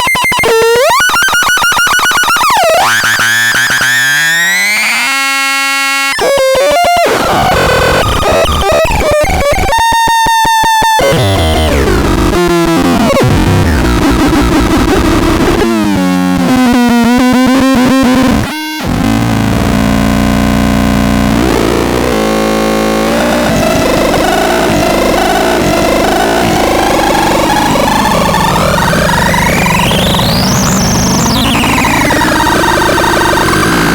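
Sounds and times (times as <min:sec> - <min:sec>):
distorted synthesizer buzzing: 0:02.4 - 0:33.9.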